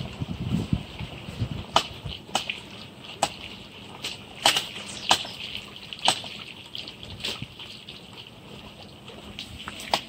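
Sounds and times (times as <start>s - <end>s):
river water at bank: 0.0s - 10.0s
sharp water splashes: 1.6s - 10.0s.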